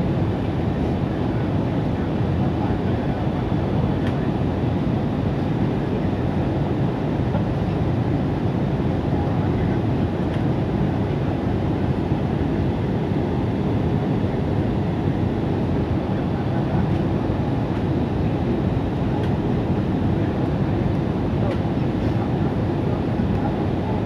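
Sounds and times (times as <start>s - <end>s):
airliner low rumble: 0.0s - 24.0s.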